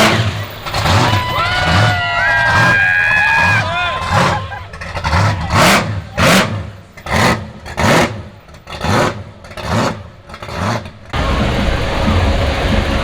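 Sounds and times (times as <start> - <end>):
car engine revving: 0.0 - 1.9, 3.4 - 13.0.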